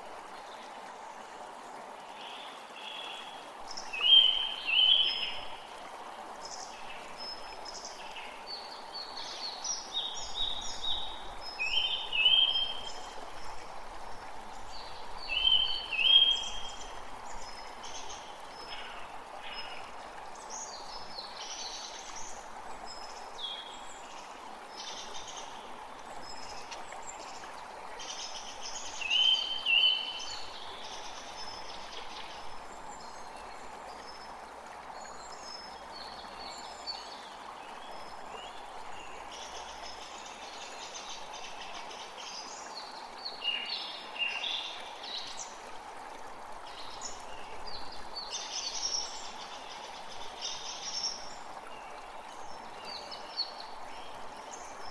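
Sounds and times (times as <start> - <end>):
creek flowing: 0.0 - 54.9
songbirds singing: 2.1 - 5.7, 6.4 - 13.6, 14.2 - 45.6, 46.6 - 54.9.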